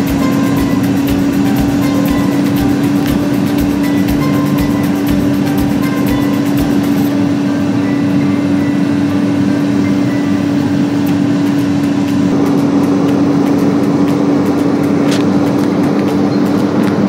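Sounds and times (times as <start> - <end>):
car road and engine drone: 0.0 - 17.0.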